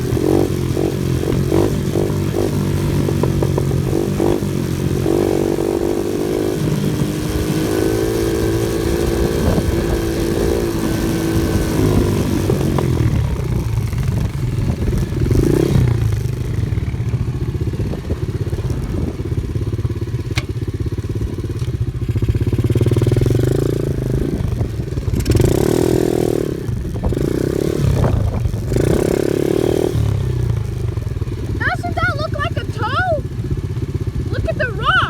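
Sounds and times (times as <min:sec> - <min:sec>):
off-road vehicle engine under load: 0:00.0 - 0:35.0.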